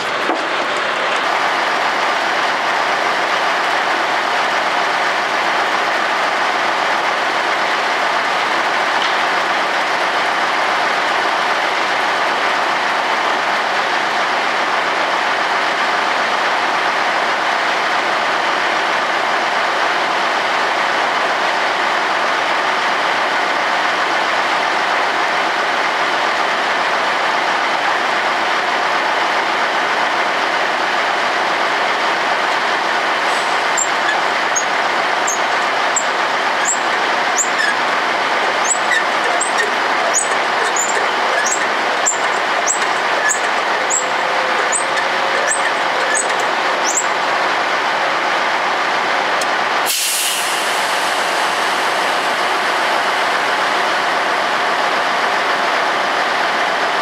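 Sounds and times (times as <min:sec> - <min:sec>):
loud machinery noise: 0:00.0 - 0:57.0.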